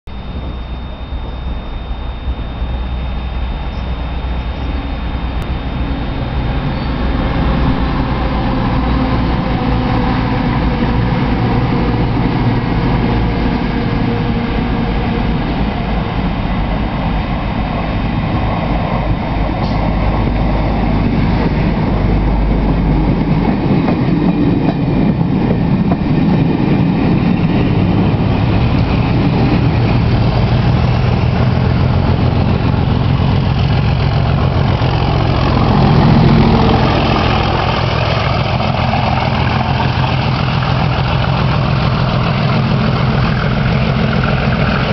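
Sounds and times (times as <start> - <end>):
diesel locomotive engine working hard: 0.1 - 44.9
train wheels running over rails: 5.4 - 44.9.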